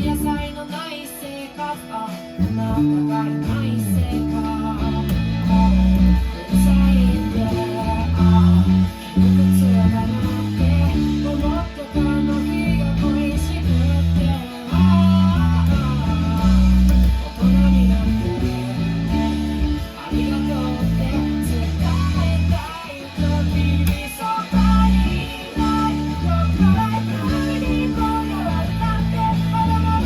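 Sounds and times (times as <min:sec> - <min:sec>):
electric bass guitar: 0:00.0 - 0:30.0
rock band music: 0:00.0 - 0:30.0.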